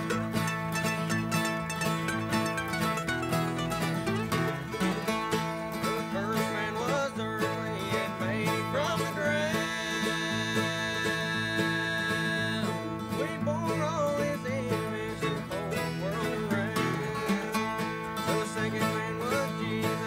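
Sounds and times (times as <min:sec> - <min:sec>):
acoustic bluegrass band playing: 0:00.0 - 0:20.0.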